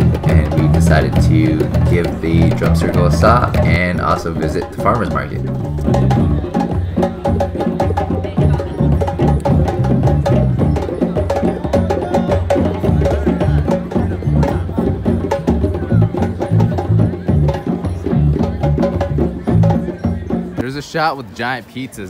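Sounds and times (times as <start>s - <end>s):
hand drums playing: 0.0s - 20.6s.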